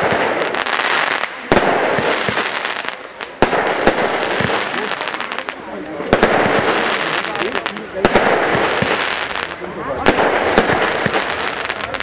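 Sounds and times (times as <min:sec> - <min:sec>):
firework shots and crackling: 0:00.0 - 0:12.0
sharp firework bangs: 0:00.0 - 0:12.0.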